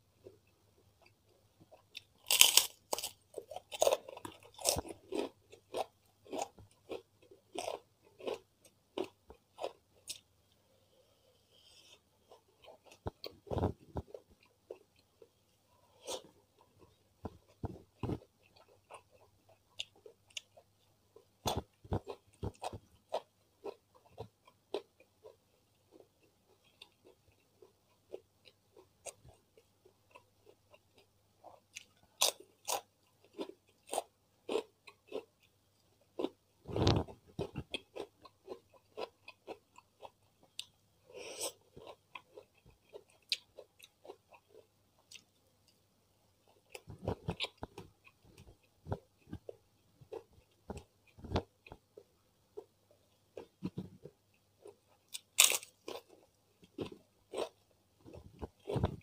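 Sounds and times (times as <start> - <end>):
chewing and crunching food: 0.2 - 10.3, 11.6 - 59.0.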